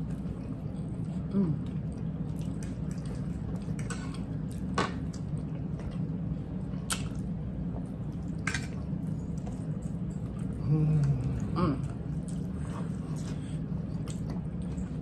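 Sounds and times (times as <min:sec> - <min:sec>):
people chewing: 0:00.0 - 0:15.0
steady low hum: 0:00.0 - 0:15.0.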